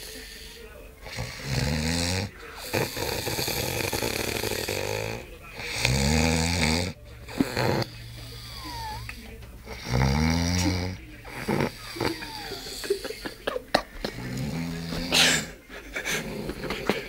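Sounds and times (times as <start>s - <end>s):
heavy snoring: 1.0s - 13.0s, 14.1s - 16.8s.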